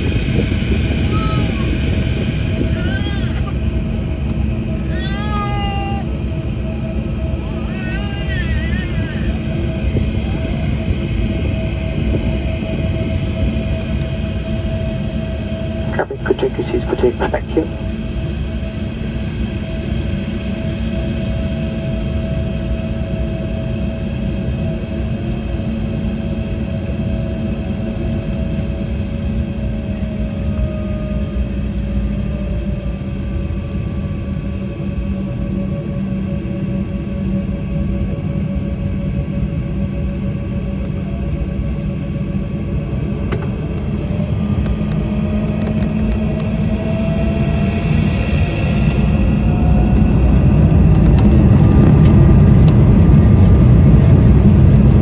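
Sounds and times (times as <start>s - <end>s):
jet engines at takeoff power: 0.0s - 55.0s.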